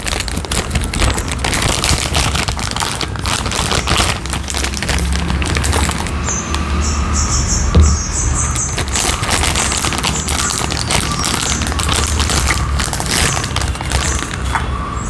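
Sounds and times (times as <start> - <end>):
plastic bags crinkling: 0.0 - 6.8, 8.5 - 14.8.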